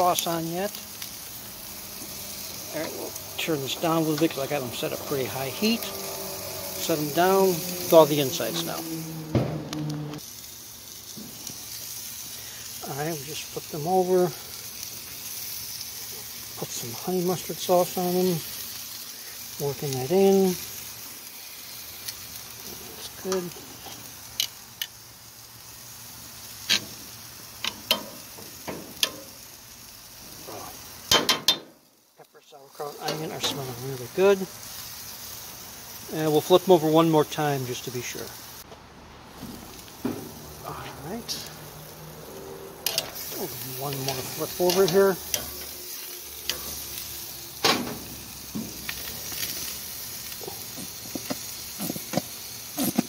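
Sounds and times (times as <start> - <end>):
food sizzling in a skillet: 0.0 - 38.7, 39.3 - 53.0.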